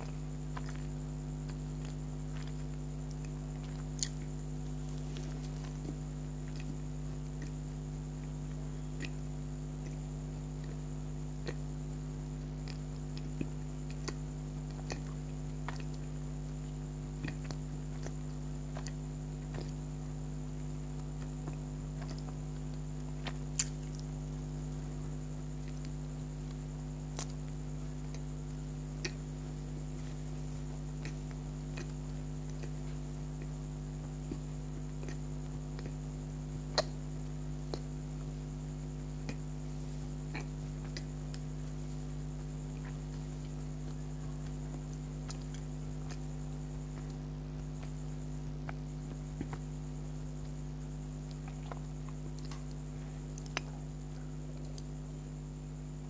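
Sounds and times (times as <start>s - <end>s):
person chewing softly: 0.0s - 56.0s
steady electrical hum: 0.0s - 56.0s.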